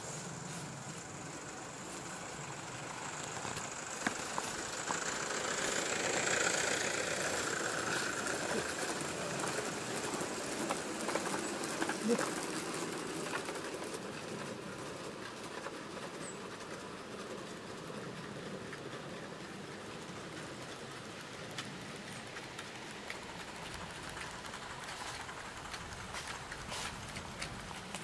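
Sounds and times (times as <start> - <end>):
model train wheels rumbling: 0.0 - 28.0.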